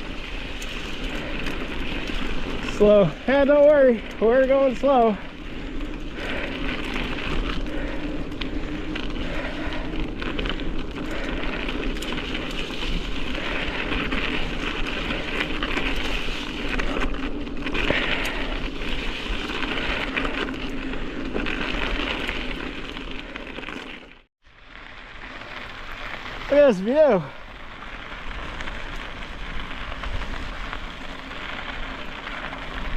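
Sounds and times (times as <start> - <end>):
bike tyres rolling: 0.0 - 32.9.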